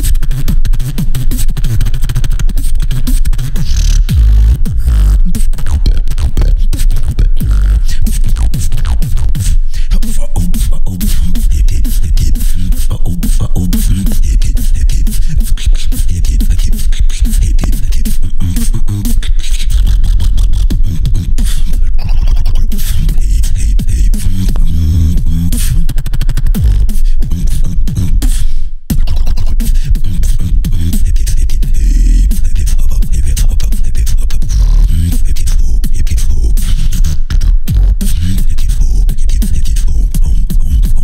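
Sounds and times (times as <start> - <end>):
beatboxing into microphone: 0.0 - 41.0.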